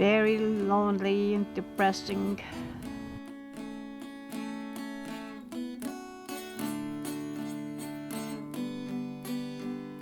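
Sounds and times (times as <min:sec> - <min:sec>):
acoustic guitar picking: 0:00.0 - 0:10.0.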